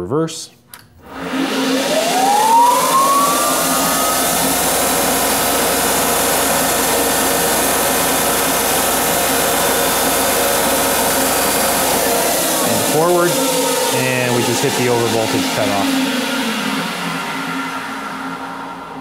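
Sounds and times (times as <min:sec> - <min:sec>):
metal lathe motor whine: 0:01.1 - 0:19.0.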